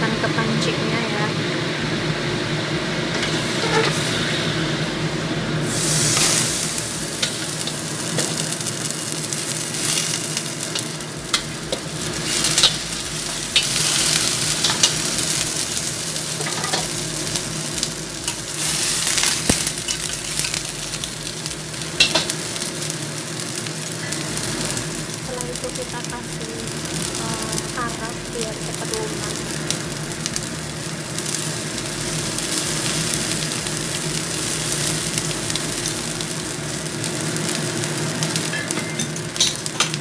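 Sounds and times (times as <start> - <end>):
low hum: 0.0 - 8.5, 10.9 - 22.4, 24.0 - 37.1
chicken sizzling in a pan: 0.0 - 40.0.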